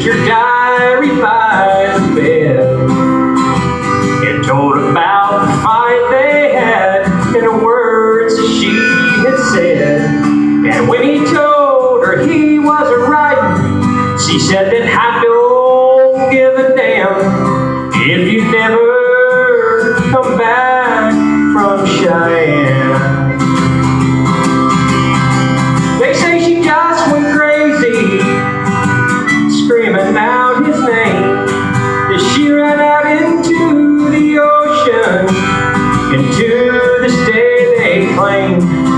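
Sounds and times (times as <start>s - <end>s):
acoustic guitar: 0.0s - 38.9s
man singing country song: 0.0s - 38.9s.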